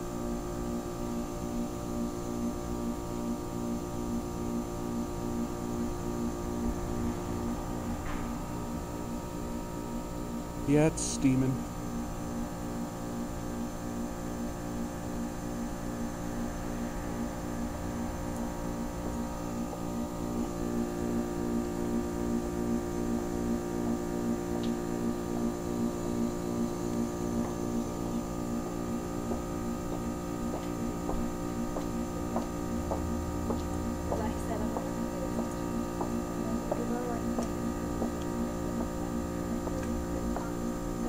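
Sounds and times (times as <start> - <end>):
heat pump compressor humming: 0.0 - 41.0.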